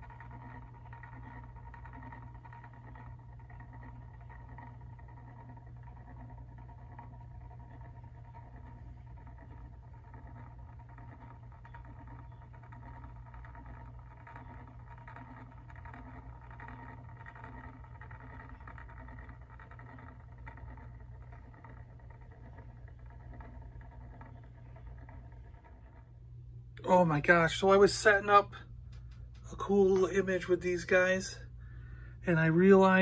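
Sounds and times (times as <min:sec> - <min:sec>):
electric motor humming: 0:00.0 - 0:33.0.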